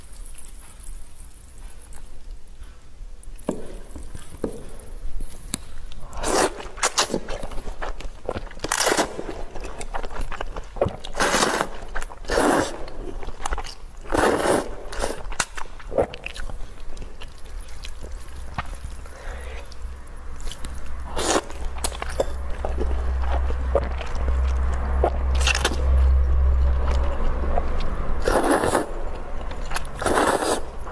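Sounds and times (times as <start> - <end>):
person eating noodle soup: 3.4 - 30.9.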